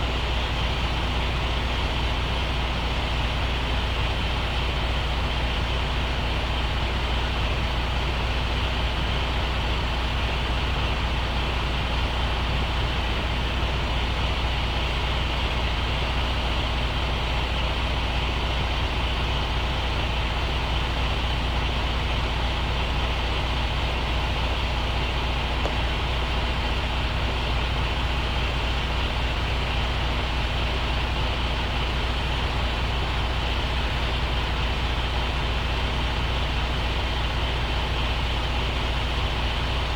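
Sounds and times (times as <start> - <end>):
truck diesel engine droning: 0.0 - 39.9.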